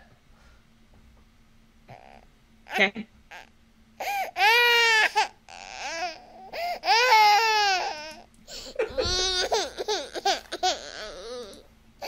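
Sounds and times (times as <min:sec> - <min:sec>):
baby crying: 0:01.9 - 0:11.7.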